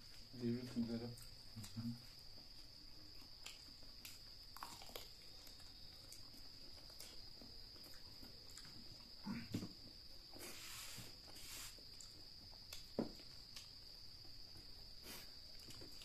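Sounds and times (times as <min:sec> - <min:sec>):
faint chewing and mouth clicks: 0:00.0 - 0:09.2, 0:11.2 - 0:16.0
high-pitched insect trill: 0:00.0 - 0:16.0.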